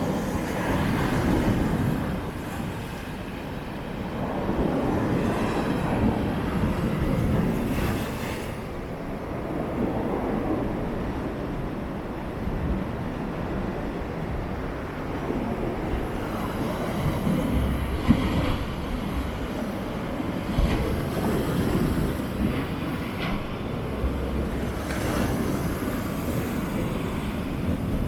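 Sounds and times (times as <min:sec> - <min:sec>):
sea waves breaking on shore: 0:00.0 - 0:28.0
wind buffeting microphone: 0:00.0 - 0:28.0.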